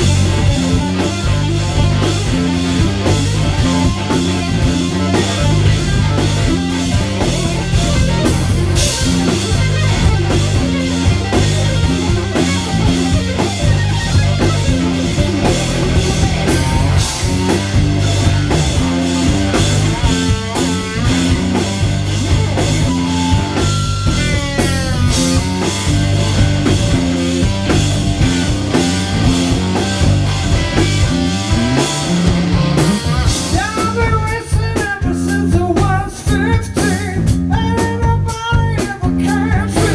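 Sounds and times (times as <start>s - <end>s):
electric guitar playing loud: 0.0s - 35.5s
drum kit: 0.0s - 39.9s
low bass line: 0.0s - 39.9s.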